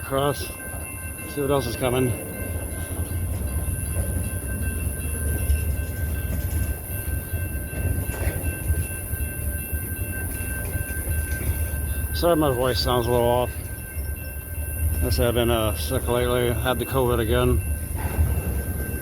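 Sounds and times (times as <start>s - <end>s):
train rolling with low rumble: 0.0s - 19.0s.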